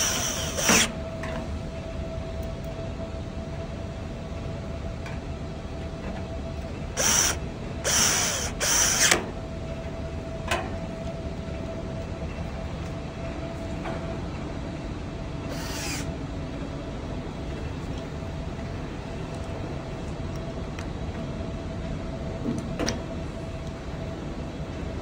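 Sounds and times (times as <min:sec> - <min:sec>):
faint constant hum: 0:00.0 - 0:25.0
low outdoor rumble: 0:00.0 - 0:25.0.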